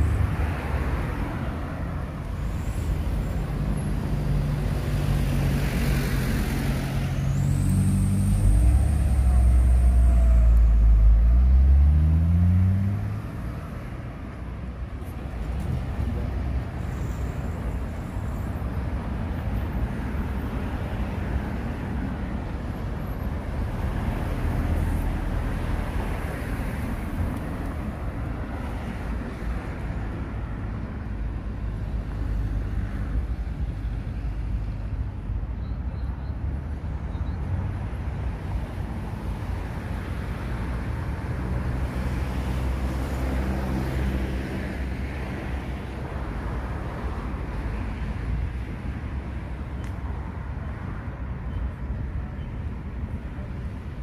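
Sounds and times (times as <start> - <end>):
road noise from passing cars: 0.0 - 54.0.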